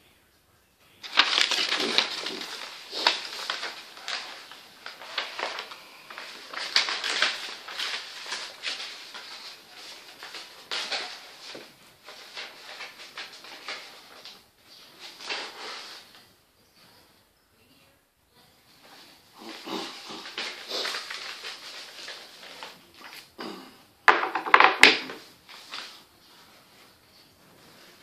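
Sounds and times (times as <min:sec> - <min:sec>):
paper rustling and flipping: 0:01.0 - 0:17.0, 0:18.8 - 0:23.4, 0:24.1 - 0:28.0.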